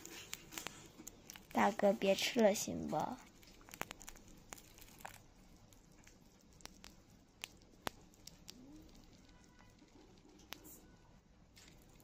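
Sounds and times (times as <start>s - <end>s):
animal chewing insect shell: 0.0s - 10.9s, 11.6s - 12.0s.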